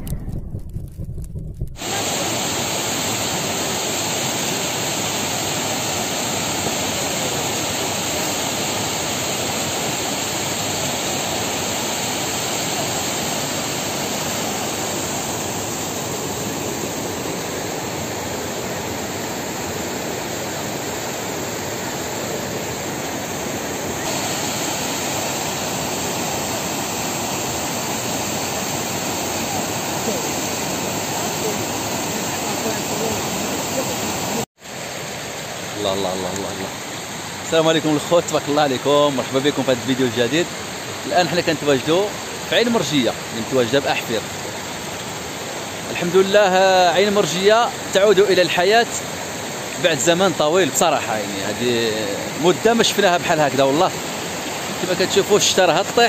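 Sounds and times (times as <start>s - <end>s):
floodwater rushing: 1.8s - 56.0s.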